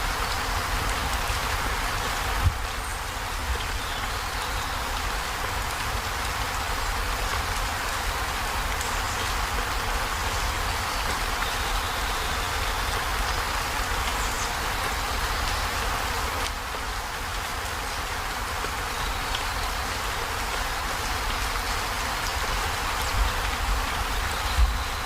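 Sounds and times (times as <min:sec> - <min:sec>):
heavy rain on metal roof: 0:00.0 - 0:25.0.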